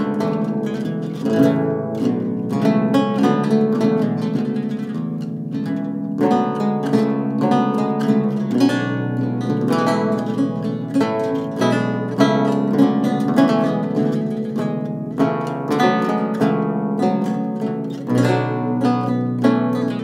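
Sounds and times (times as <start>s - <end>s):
lutes playing in duet: 0.0s - 20.0s.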